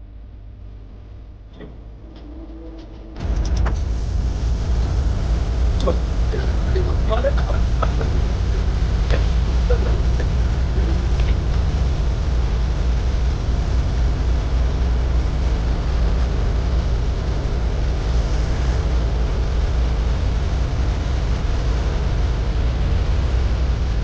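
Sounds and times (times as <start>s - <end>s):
deep rumble: 0.0s - 24.0s
torch flame roaring: 1.5s - 24.0s.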